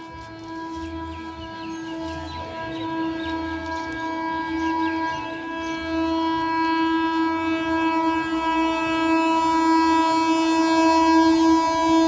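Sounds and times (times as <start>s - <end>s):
train horn long steady note: 0.0s - 12.0s.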